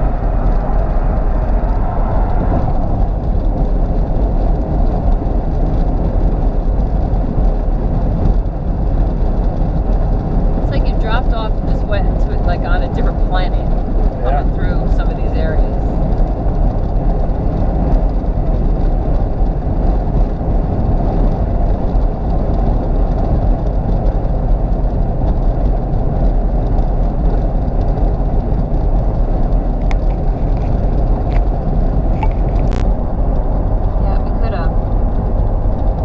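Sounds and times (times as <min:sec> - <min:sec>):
car cabin road noise: 0:00.0 - 0:36.0.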